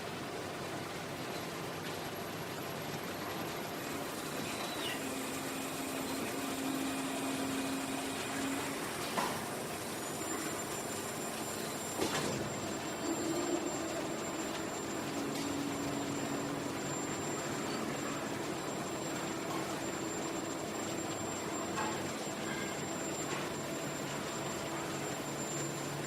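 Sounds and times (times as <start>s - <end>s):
machinery running: 3.9s - 26.0s.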